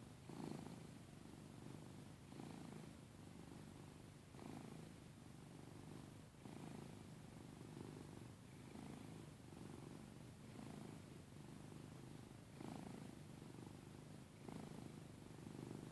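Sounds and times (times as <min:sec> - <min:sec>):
cat snoring: 0:00.0 - 0:15.9.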